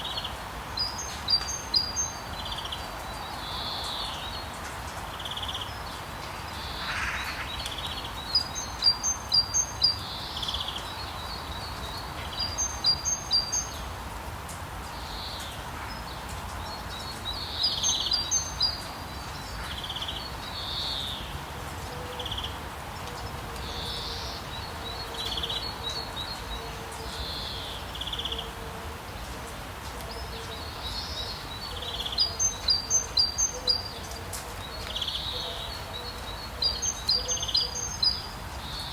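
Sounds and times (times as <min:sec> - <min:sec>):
songbirds singing: 0:00.0 - 0:14.0, 0:14.8 - 0:38.9
rain hiss: 0:00.0 - 0:38.9.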